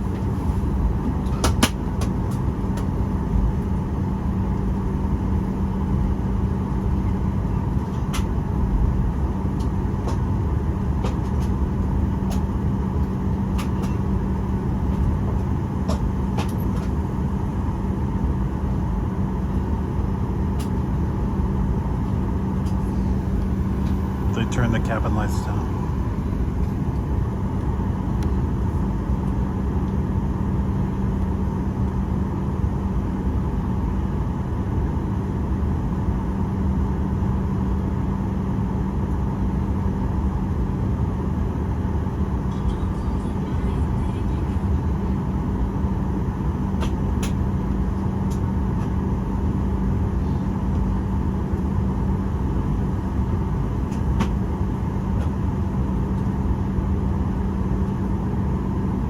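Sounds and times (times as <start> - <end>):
airplane cabin rush and hum: 0.0 - 59.0.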